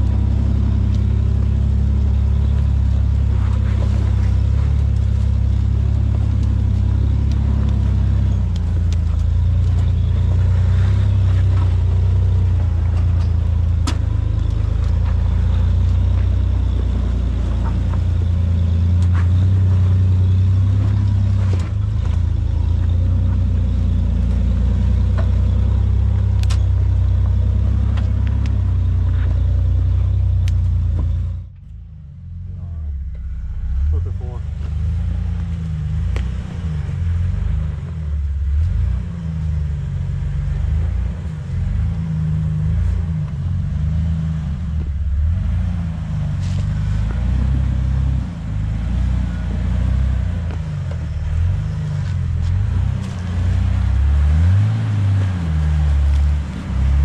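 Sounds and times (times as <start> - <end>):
engine running at low revs: 0.0 - 57.0.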